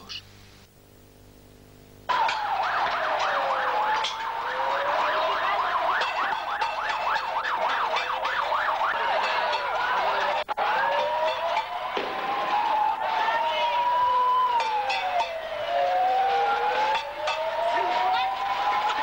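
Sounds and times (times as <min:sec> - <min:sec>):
siren yelping: 0:02.1 - 0:19.0
sirens wailing: 0:02.1 - 0:19.0.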